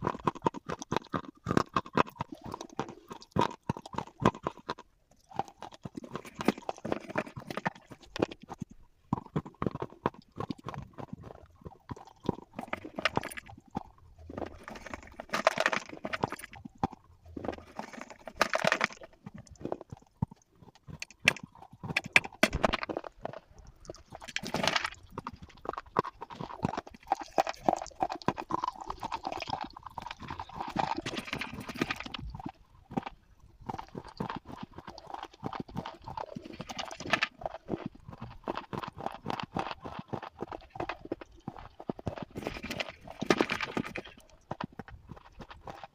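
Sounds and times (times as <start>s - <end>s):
crunching and chewing: 0.0s - 45.9s.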